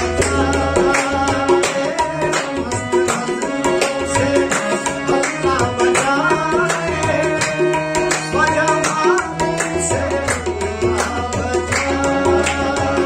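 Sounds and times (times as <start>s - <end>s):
harmonium chords: 0.0s - 13.0s
man singing: 0.0s - 13.0s
tabla rhythm: 0.0s - 13.0s.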